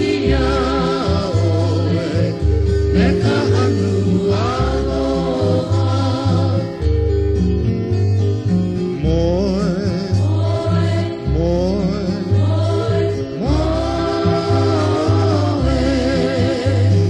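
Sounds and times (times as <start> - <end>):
deep bass line: 0.0 - 17.0.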